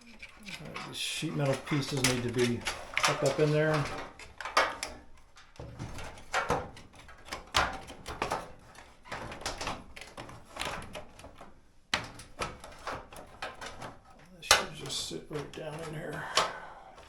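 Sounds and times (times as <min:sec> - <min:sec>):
clicks and knocks of dryer parts: 0:00.0 - 0:17.0.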